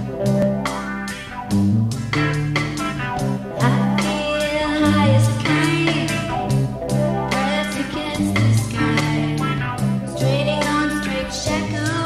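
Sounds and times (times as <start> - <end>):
bass notes: 0.0 - 12.0
guitar-led song: 0.0 - 12.0.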